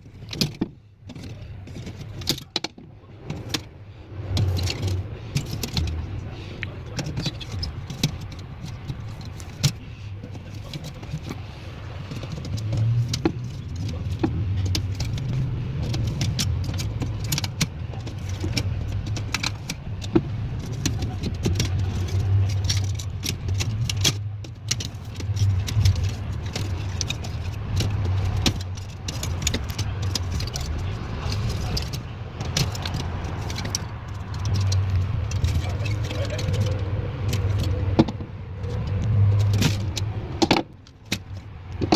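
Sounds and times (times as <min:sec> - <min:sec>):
hand tools clicking and clattering: 0:00.0 - 0:41.9.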